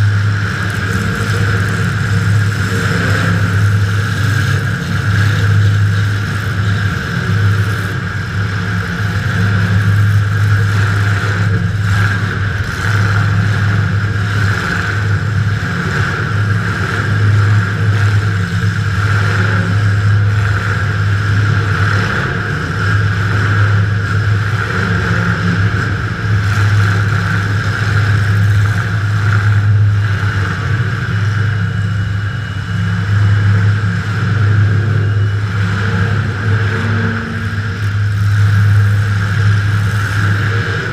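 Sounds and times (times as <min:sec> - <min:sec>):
car engine running loud: 0:00.0 - 0:40.9.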